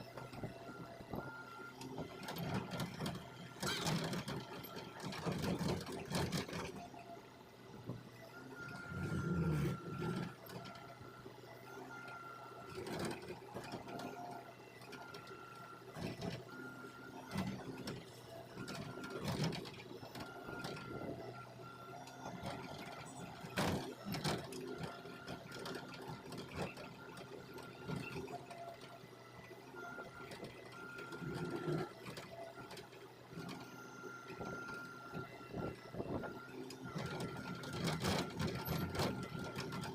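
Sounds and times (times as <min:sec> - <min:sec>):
excavator running with whine: 0:00.0 - 0:39.9.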